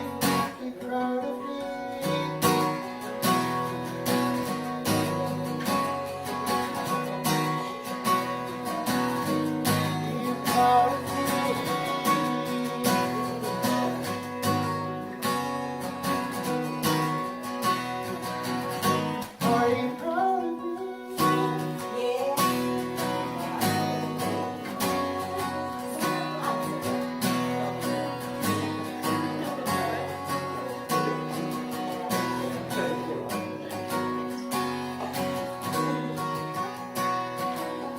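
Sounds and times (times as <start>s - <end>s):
acoustic guitar strumming: 0.0s - 37.9s.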